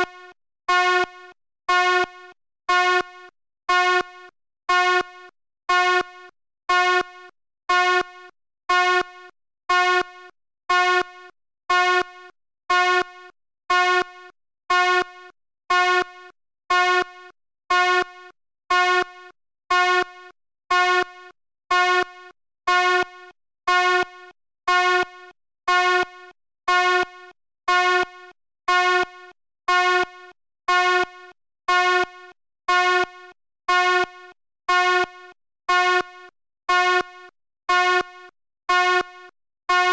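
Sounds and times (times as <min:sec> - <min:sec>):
fire alarm buzzing blasts: 0:00.0 - 0:39.9.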